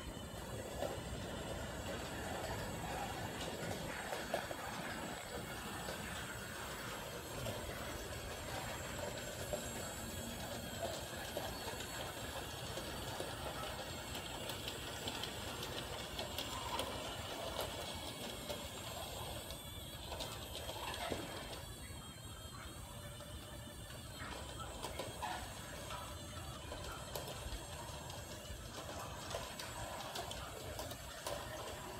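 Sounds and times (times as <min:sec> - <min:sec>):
toy train motor whirring: 0:00.0 - 0:31.9.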